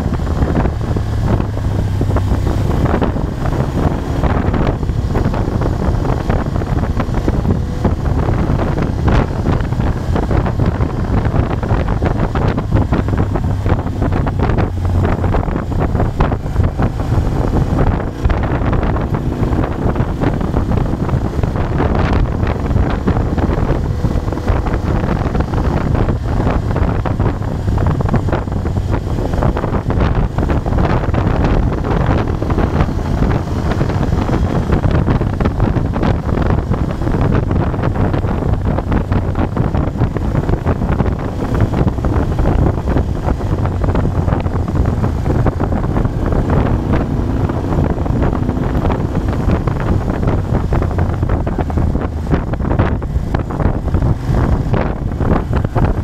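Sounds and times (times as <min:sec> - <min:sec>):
motorcycle engine cruising: 0:00.0 - 0:56.0
wind on microphone: 0:00.0 - 0:56.0.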